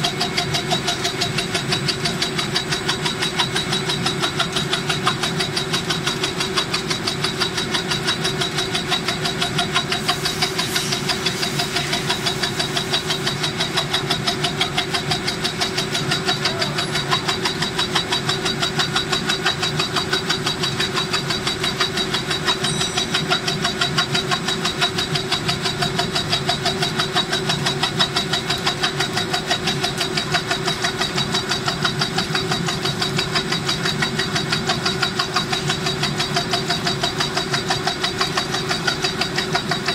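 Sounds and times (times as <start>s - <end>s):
steady machine hum: 0.0s - 39.9s
tufting machine strokes: 0.0s - 39.9s.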